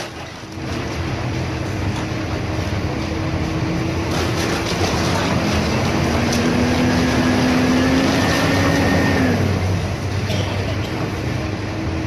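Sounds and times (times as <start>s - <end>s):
excavator engine and hydraulics: 0.0s - 12.0s.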